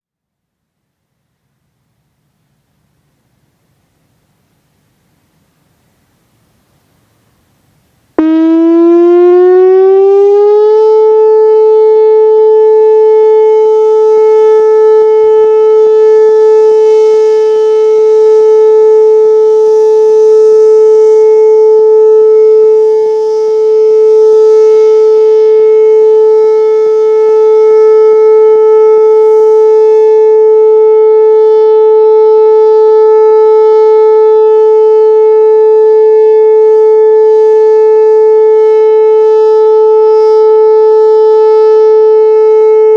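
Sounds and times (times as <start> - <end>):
warning siren steady tone: 8.2 - 42.9.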